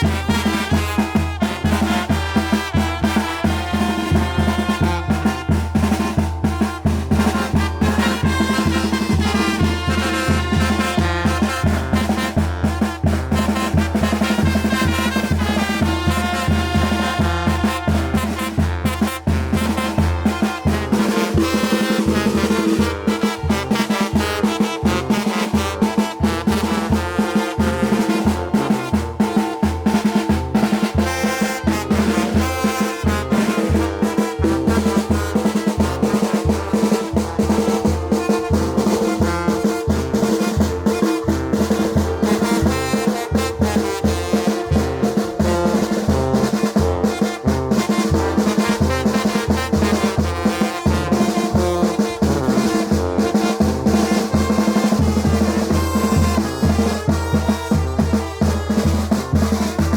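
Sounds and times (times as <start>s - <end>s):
bass drum beat: 0.0s - 59.9s
brass carrying the tune: 0.0s - 59.9s
snare drum: 0.0s - 59.9s.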